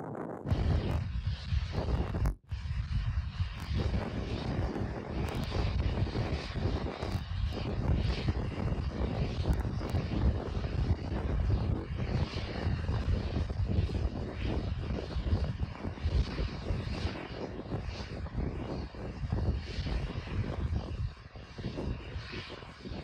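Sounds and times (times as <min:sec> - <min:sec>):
rocket engines rumbling: 0:00.0 - 0:23.0.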